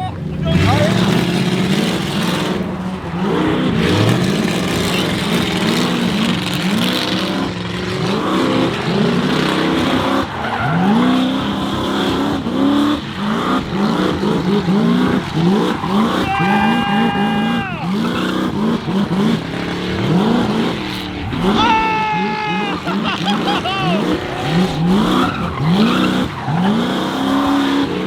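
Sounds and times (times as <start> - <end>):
truck engine revving: 0.0 - 28.0
tyres screeching on pavement: 0.0 - 28.0.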